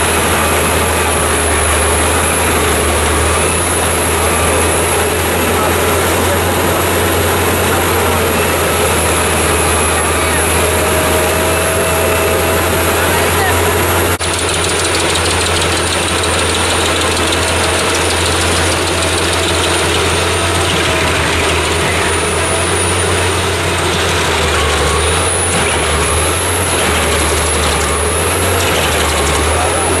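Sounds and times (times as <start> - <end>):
wood chipper running: 0.0 - 30.0.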